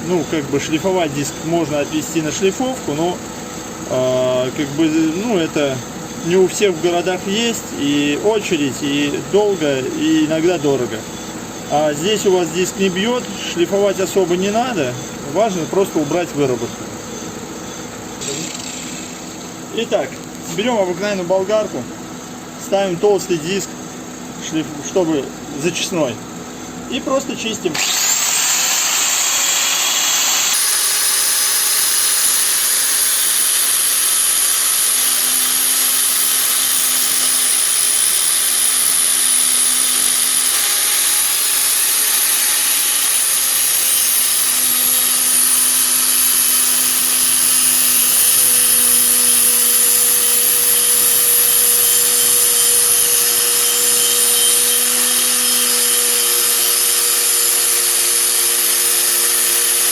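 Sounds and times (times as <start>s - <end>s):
angle grinder grinding metal: 0.0s - 3.2s, 3.8s - 21.7s, 27.1s - 59.9s.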